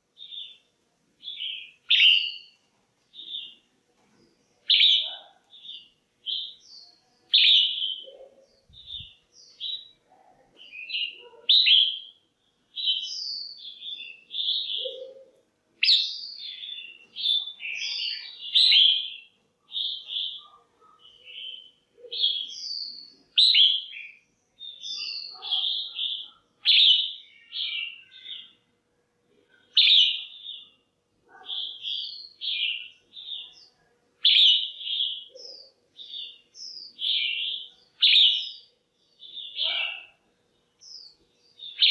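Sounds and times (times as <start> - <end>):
bird chirping calls: 0.0 - 28.6, 29.5 - 41.9.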